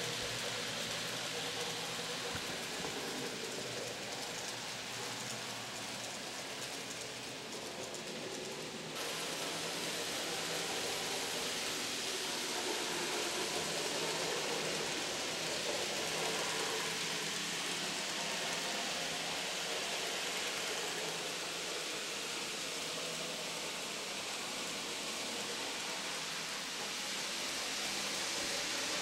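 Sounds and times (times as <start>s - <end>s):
model train running on track: 0.0s - 29.0s
steady hiss: 0.0s - 29.0s.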